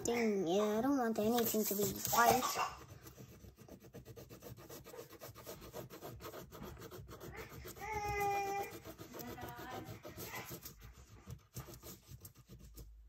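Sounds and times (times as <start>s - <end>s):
crayon scratching on paper: 0.7s - 13.0s.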